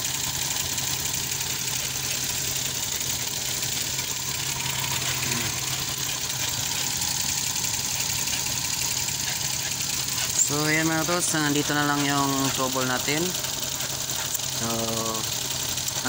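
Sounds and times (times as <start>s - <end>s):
car engine idling with ticking: 0.0s - 16.0s.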